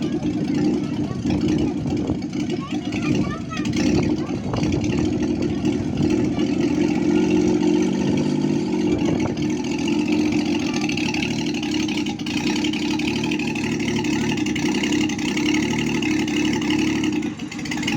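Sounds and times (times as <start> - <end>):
helicopter engine running: 0.0 - 17.9.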